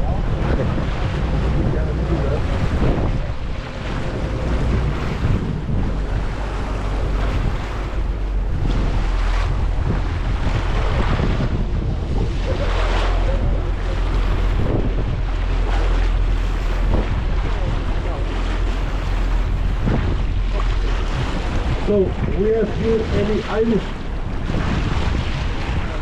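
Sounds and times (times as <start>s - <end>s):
boat engine low rumble: 0.0s - 26.0s
water rushing past hull: 0.0s - 26.0s
wind buffeting microphone: 0.0s - 26.0s.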